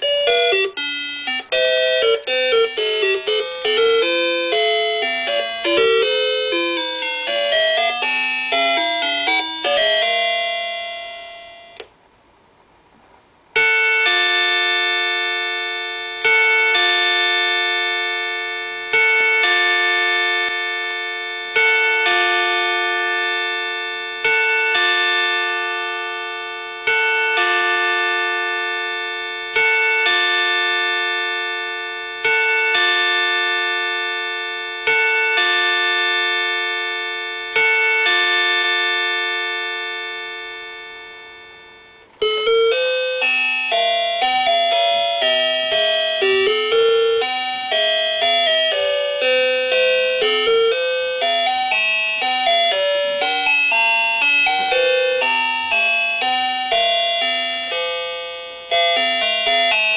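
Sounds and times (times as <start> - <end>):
wall clock chiming: 0.0 - 11.8, 13.6 - 59.9
bright clock melody: 0.0 - 11.9, 13.6 - 59.9.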